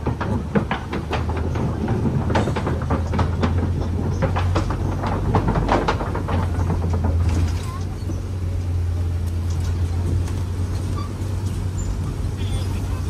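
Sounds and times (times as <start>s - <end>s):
truck engine hum: 0.0s - 13.0s
vehicle rattling and knocking: 0.0s - 13.0s.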